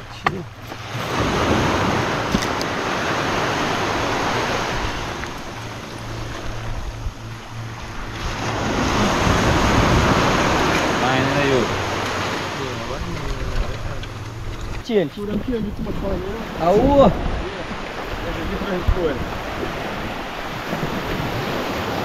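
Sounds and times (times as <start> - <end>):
waves washing onto rocky shore: 0.0 - 22.0
wind buffeting microphone: 0.0 - 22.0.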